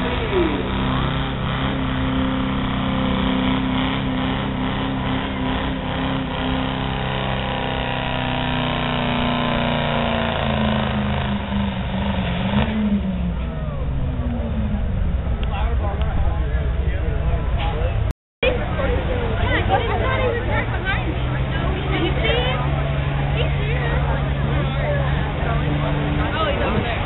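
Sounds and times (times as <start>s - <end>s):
pickup engine at high revs: 0.0s - 15.4s, 18.5s - 27.0s.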